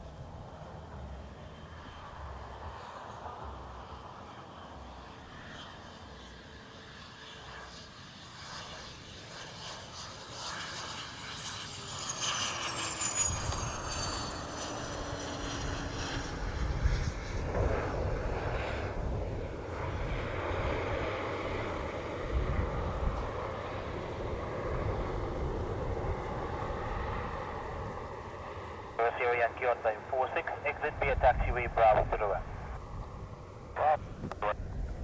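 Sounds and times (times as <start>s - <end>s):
jet engines whining: 0.0s - 35.0s
low rumble of jet landing: 0.0s - 35.0s.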